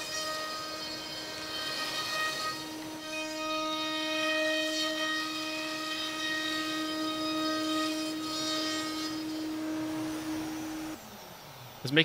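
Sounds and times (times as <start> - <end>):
router spindle whining: 0.0 - 11.8
cutting and airflow hiss: 0.0 - 12.0.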